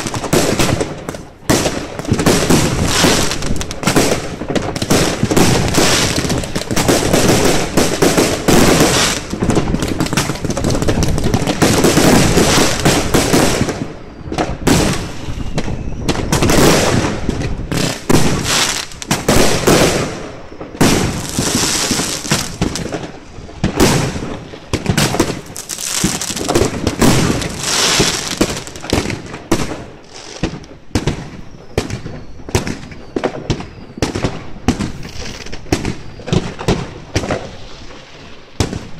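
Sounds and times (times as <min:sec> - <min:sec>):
fireworks banging and crackling: 0:00.0 - 0:38.9.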